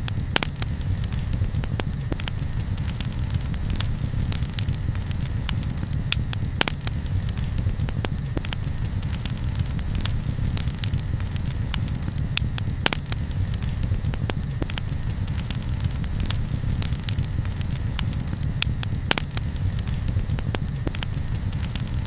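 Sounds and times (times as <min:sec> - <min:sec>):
campfire crackling and popping: 0:00.0 - 0:22.0
low steady rumble: 0:00.0 - 0:22.0.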